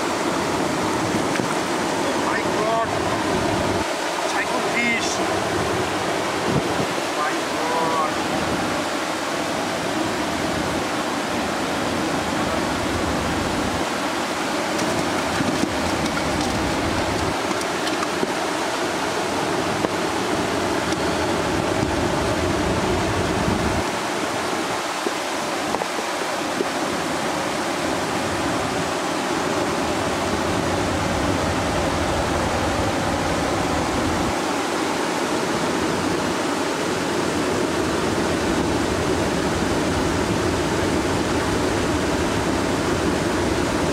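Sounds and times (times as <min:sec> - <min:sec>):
water rushing over weir: 0:00.0 - 0:43.9.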